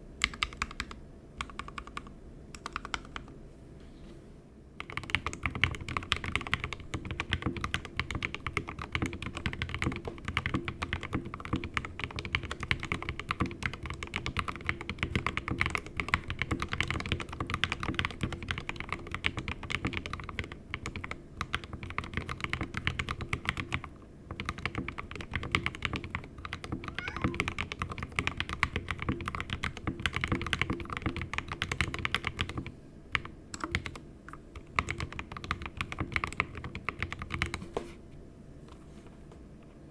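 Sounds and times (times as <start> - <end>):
fast mechanical keyboard typing: 0.2 - 3.3, 4.8 - 37.6.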